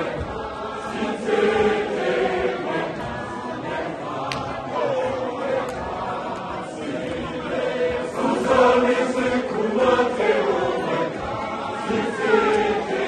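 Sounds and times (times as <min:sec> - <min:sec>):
congregation singing and chanting: 0:00.0 - 0:13.0.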